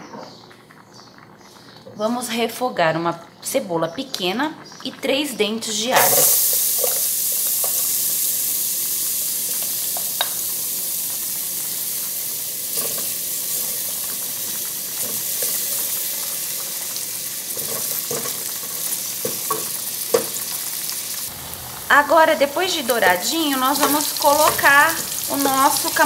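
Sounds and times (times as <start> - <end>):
onion and garlic sizzling in oil: 4.2 - 26.0.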